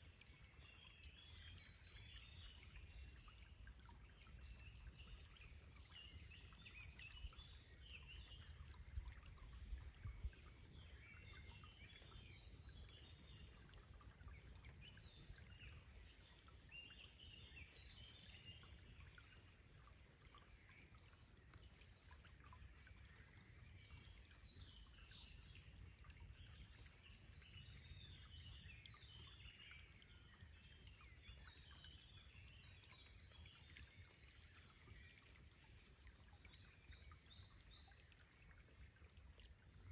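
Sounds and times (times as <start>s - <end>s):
faint birdsong: 0.0s - 39.9s.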